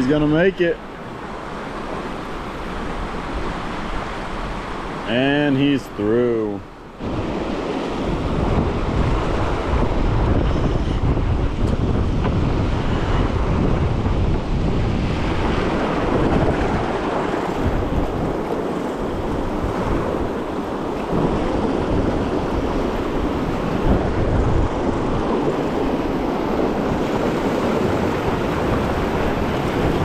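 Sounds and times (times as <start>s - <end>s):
river water rushing: 0.0s - 30.0s
wind buffeting microphone: 0.0s - 30.0s.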